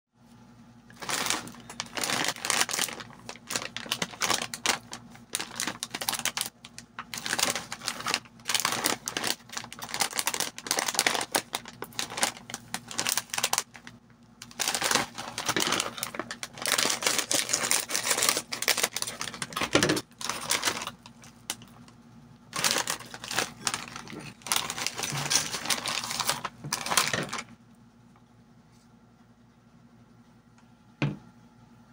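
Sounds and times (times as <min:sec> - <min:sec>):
plastic bag crinkling: 0:00.9 - 0:27.6.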